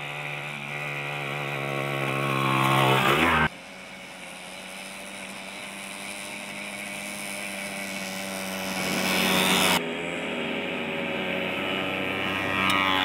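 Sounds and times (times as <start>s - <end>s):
moped engine running: 0.0s - 13.0s.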